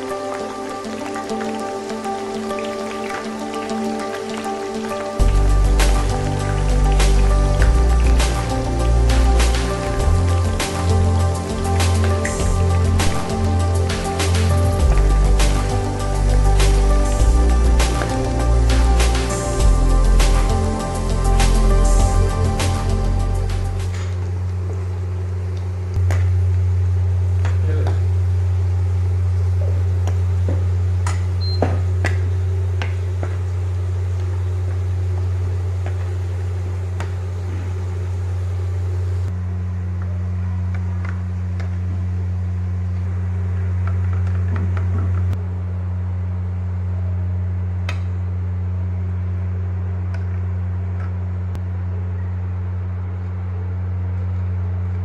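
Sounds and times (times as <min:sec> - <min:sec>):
steady low hum: 0:04.4 - 0:55.0.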